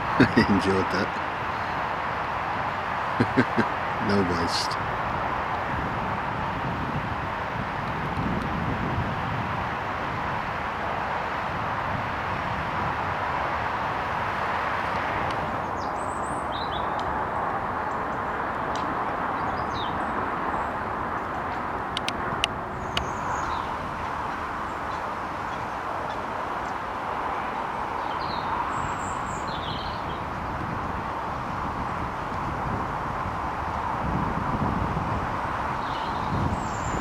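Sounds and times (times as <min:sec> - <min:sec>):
outdoor background noise: 0:00.0 - 0:37.0.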